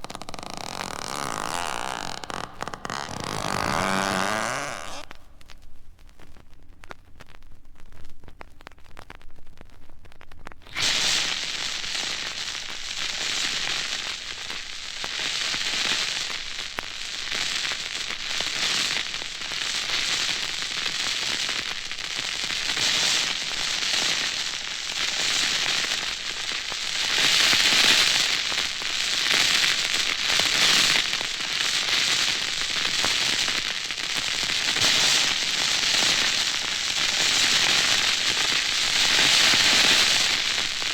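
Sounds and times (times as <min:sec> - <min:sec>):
dense crackling and hissing: 0:00.0 - 0:40.9.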